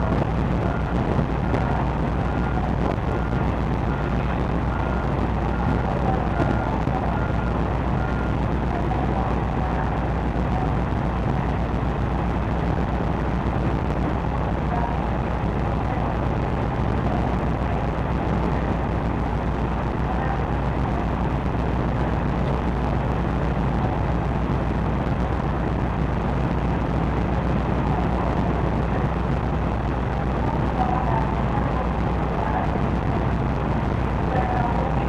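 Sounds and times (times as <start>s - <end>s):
ship engines rumbling: 0.0s - 35.0s.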